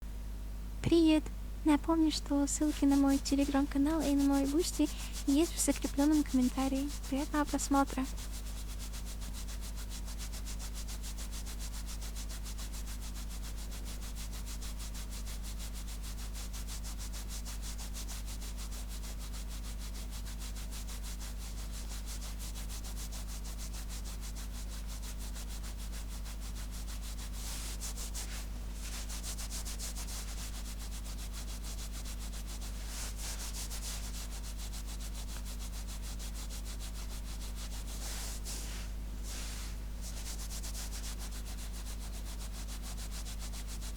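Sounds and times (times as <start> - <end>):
fingernails scratching fabric: 2.0 - 16.0, 18.7 - 43.9.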